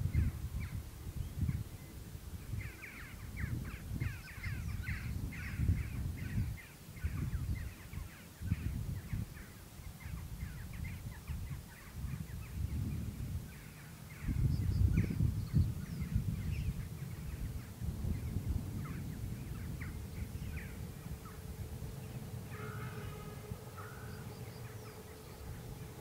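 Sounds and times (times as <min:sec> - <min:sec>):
birds chirping: 0:00.0 - 0:26.0
wind gusting on microphone: 0:00.0 - 0:26.0.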